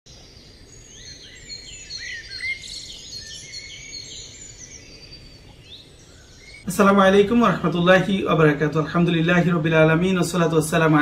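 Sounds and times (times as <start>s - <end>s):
faint steady hiss: 0.1s - 11.0s
small birds chirping: 0.1s - 11.0s.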